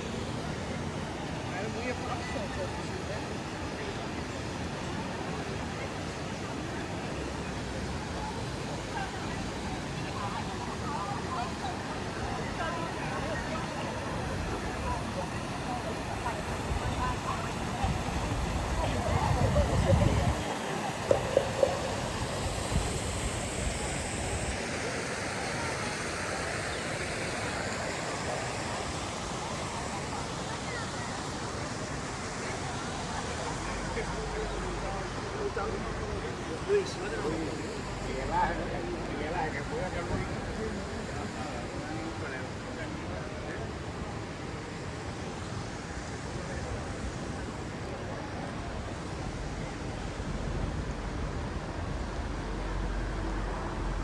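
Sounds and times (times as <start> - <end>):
faint voices: 0.0 - 54.0
fountain water splashing: 0.0 - 54.0.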